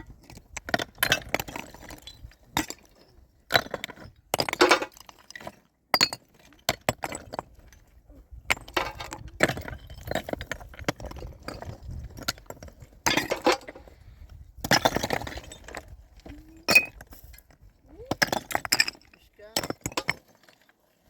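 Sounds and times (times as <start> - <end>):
hard objects clinking and scraping: 0.0 - 14.0, 14.6 - 20.9.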